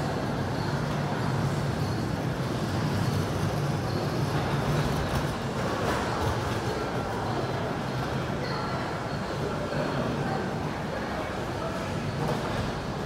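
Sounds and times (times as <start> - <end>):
railway station rumble and hubbub: 0.0 - 13.0.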